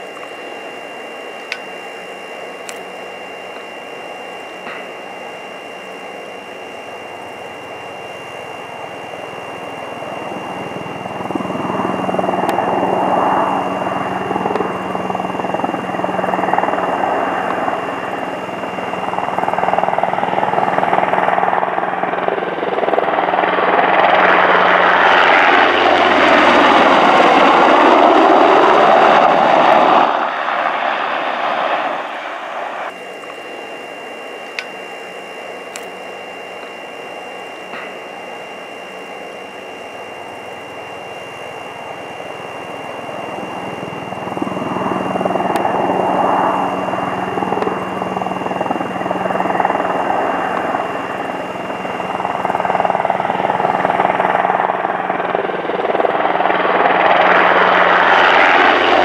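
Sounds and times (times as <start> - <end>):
helicopter rotor and engine noise: 0.0 - 59.0.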